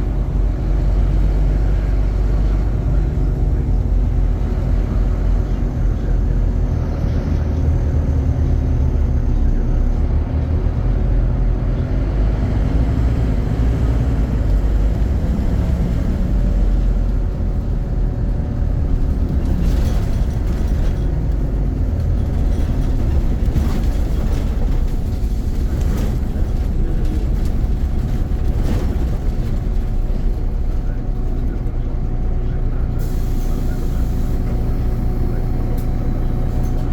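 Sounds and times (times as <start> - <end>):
bus engine drone: 0.0 - 36.9.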